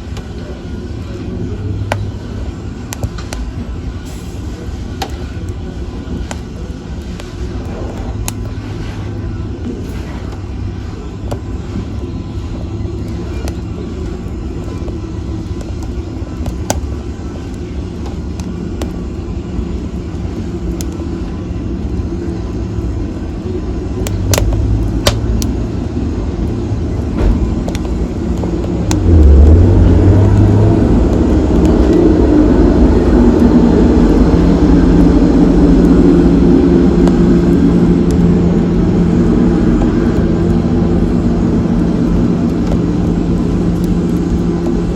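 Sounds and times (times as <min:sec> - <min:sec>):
logs crackling and popping: 0:00.0 - 0:44.9
low roar of flames: 0:00.0 - 0:44.9.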